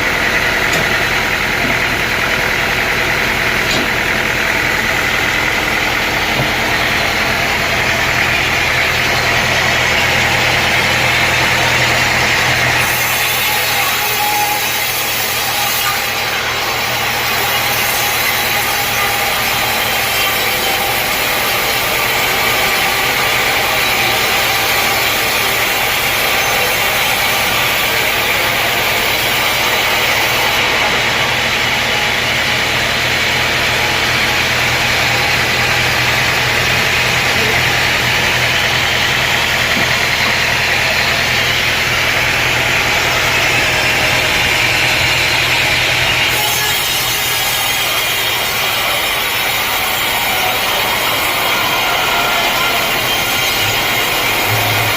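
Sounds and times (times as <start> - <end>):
engine drone: 0.0 - 54.9
saw cutting through wood: 0.0 - 54.9.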